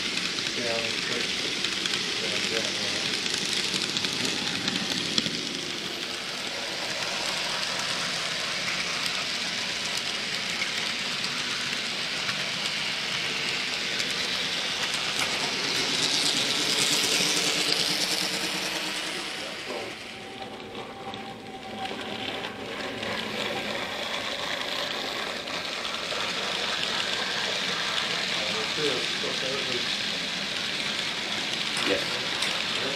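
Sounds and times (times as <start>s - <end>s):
small motor whirring: 0.0s - 32.9s
wheels rattling on rails: 0.0s - 32.9s.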